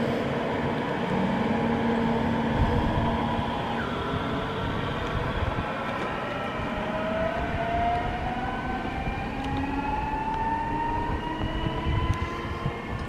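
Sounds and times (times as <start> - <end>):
train electric motors whining: 0.0 - 13.0.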